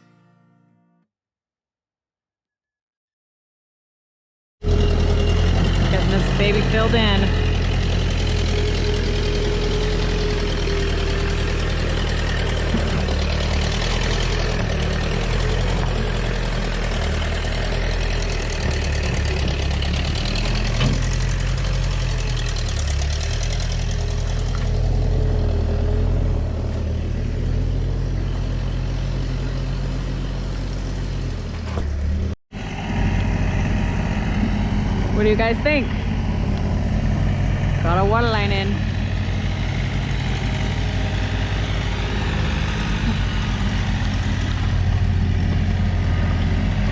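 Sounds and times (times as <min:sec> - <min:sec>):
tractor engine running: 0:04.6 - 0:46.9.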